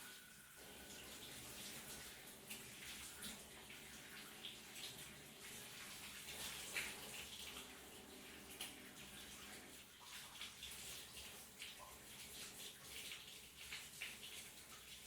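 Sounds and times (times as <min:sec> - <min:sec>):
shower running: 0:00.0 - 0:15.0.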